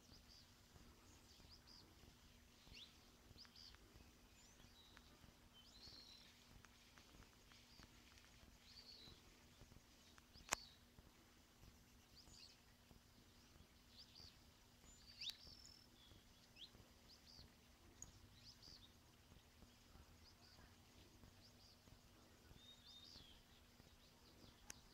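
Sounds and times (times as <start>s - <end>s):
faint bird chirps: 0.0s - 24.9s
faint low hum: 0.0s - 24.9s.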